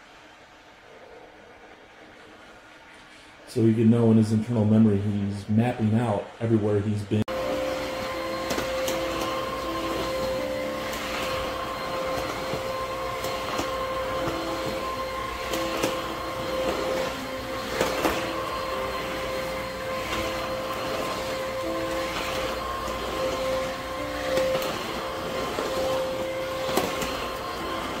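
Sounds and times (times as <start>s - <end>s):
vacuum cleaner motor whining: 0.0s - 28.0s.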